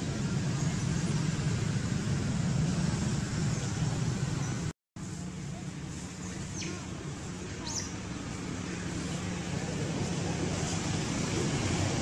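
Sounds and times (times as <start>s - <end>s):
outdoor background hum: 0.0s - 12.0s.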